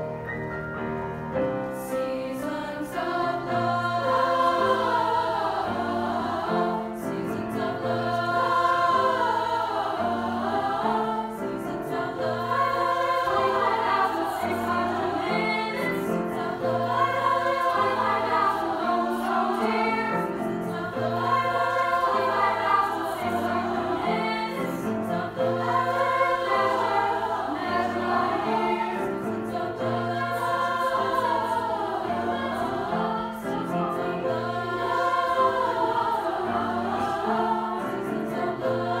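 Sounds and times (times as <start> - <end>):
piano chords: 0.0 - 39.0
girls' choir singing: 1.6 - 39.0.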